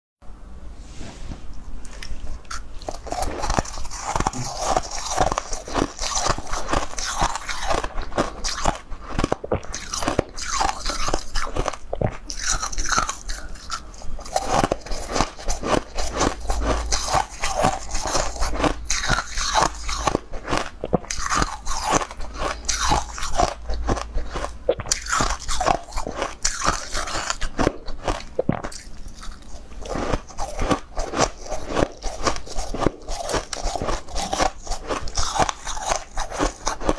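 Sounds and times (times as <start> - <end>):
ice crunching in mouth: 2.0 - 36.9.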